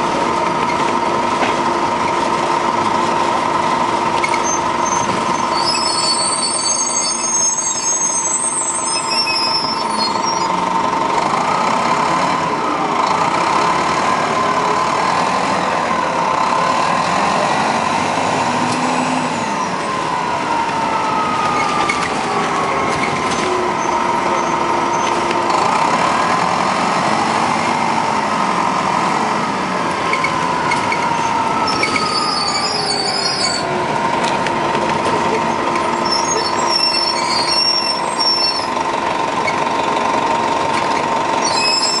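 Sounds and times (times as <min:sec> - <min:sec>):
bus diesel engine: 0:00.0 - 0:42.0.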